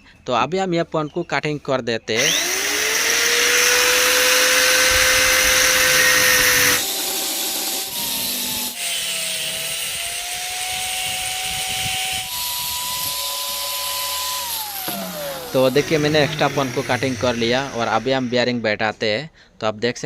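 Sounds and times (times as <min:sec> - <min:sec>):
power cutting tool cutting metal: 0:02.2 - 0:18.6.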